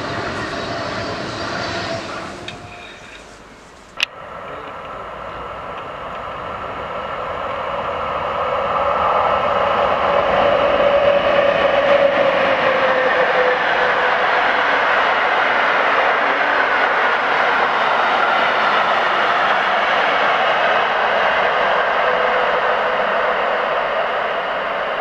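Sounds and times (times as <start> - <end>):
train wheels rumbling on rail: 0.0 - 25.0
train whine: 0.0 - 25.0.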